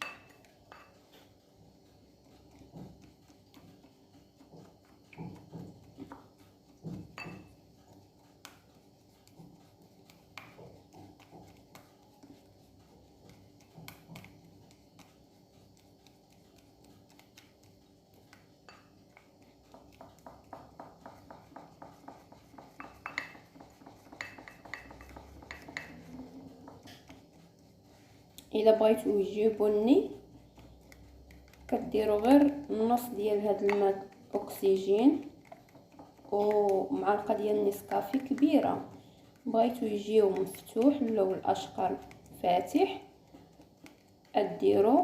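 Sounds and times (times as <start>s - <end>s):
utensil tapping against bowl: 0.0s - 1.4s, 2.2s - 45.0s
utensil stirring paste in bowl: 0.0s - 45.0s.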